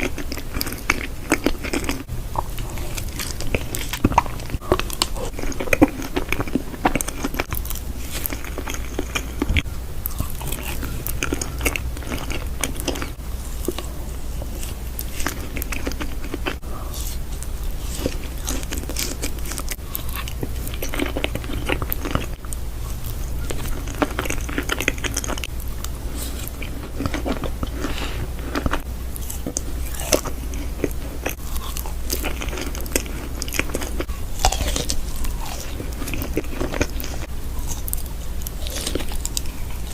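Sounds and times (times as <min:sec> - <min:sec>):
person crunching and chewing: 0:00.0 - 0:39.9
steady low hum: 0:00.0 - 0:39.9.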